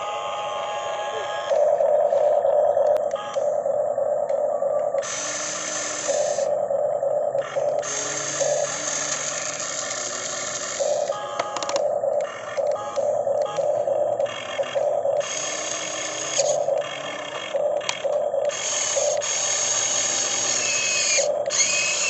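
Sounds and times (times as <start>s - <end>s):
toy excavator motors whining: 0.0s - 3.6s, 4.2s - 22.0s.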